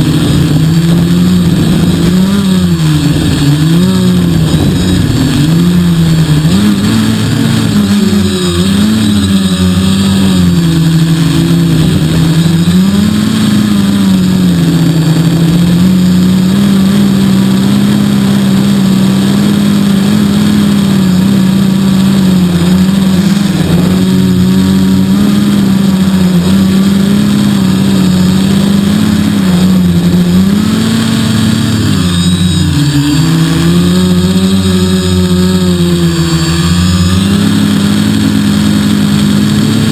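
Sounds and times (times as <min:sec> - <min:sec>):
quadcopter motors humming: 0:00.0 - 0:39.9.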